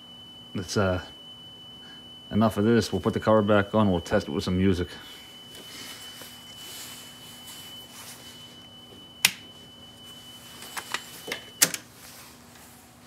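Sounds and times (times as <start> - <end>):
steady test tone: 0.0 - 11.6.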